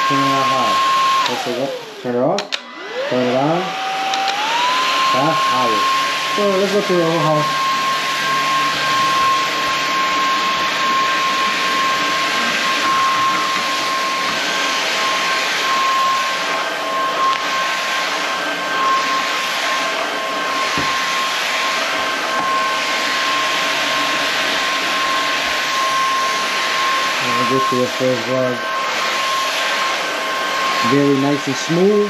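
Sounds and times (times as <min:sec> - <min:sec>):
stick vacuum running: 0:00.0 - 0:32.0.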